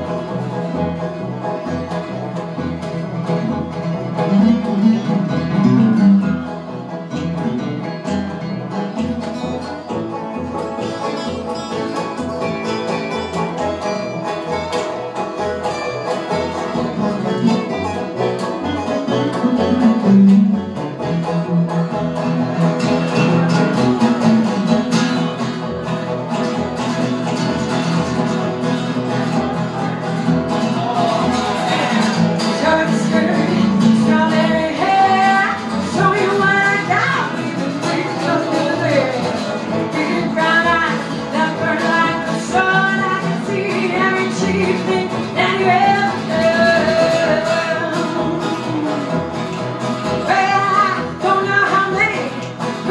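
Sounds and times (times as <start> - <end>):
acoustic guitar picking: 0.0 - 52.9
banjo picking: 0.0 - 52.9
upright bass notes: 0.0 - 52.9.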